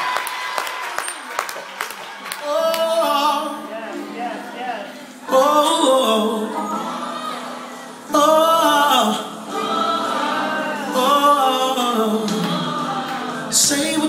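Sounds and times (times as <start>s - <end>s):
gospel choir singing: 2.4s - 14.0s.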